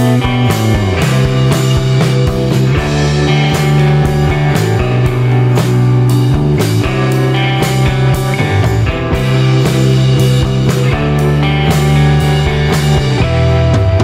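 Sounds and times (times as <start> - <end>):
bass guitar: 0.0 - 14.0
electric guitar: 0.0 - 14.0
steady drum beat: 0.0 - 14.0.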